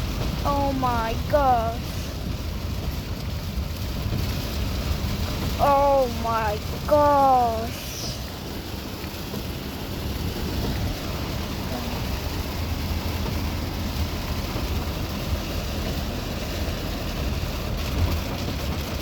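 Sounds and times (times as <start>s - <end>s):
car driving rumble: 0.0s - 19.0s
heavy rain hissing on car: 0.0s - 19.0s.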